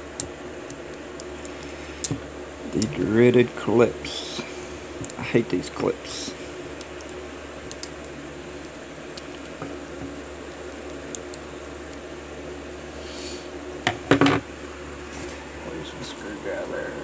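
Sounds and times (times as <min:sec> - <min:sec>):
fan-like hum: 0:00.0 - 0:17.0.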